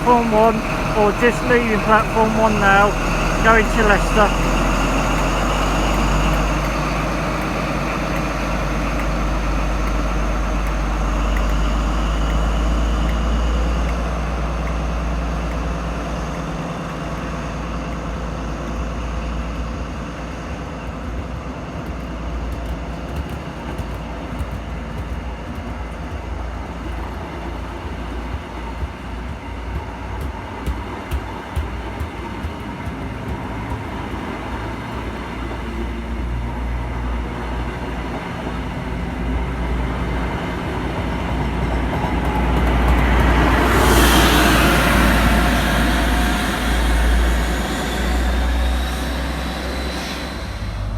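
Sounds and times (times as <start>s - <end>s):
diesel locomotive engine whining: 0.0s - 50.9s.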